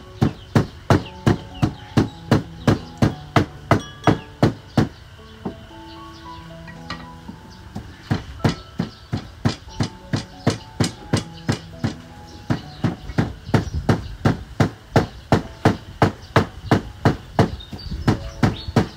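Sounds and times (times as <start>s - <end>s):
pestle pounding in mortar: 0.0s - 5.6s, 7.7s - 18.9s.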